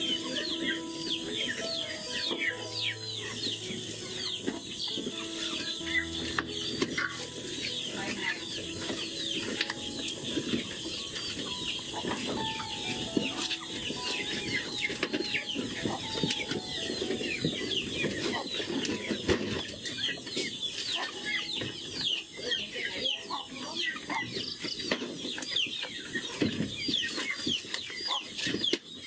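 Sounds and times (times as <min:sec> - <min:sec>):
rustling and crunching: 0:00.0 - 0:23.0, 0:23.8 - 0:29.0
chickens clucking: 0:00.0 - 0:29.0.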